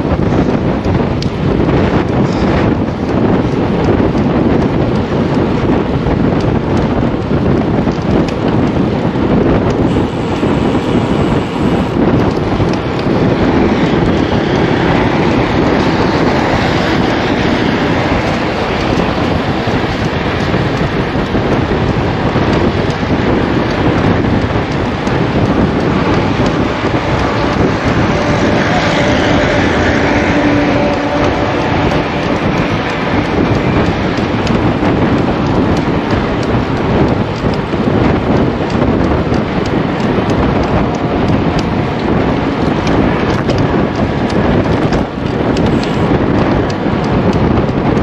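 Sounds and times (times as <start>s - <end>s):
tyres rumbling on road: 0.0s - 48.0s
wind rushing over microphone: 0.0s - 48.0s.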